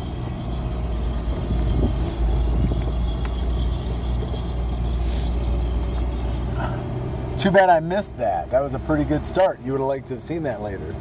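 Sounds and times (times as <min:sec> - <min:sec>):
pickup engine pulling away: 0:00.0 - 0:11.0.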